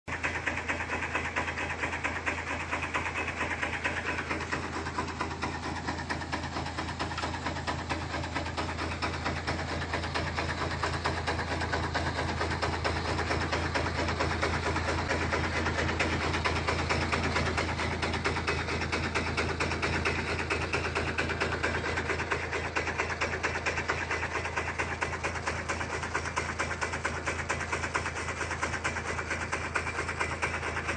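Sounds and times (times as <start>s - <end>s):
fast even mechanical rattle: 0.1s - 30.9s
tractor engine running: 0.1s - 30.9s.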